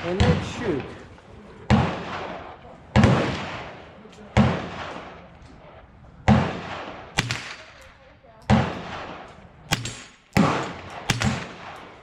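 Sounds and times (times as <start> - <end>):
rifle shots echoing: 0.0 - 12.0.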